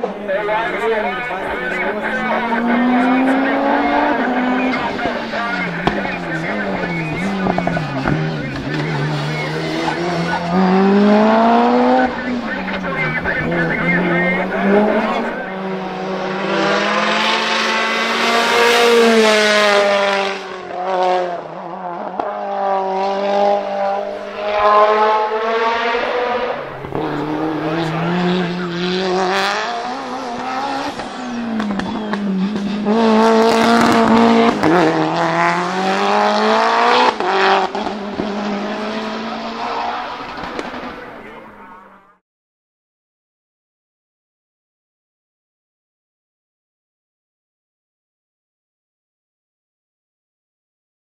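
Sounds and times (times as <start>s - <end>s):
car engine at full throttle: 0.0s - 42.2s.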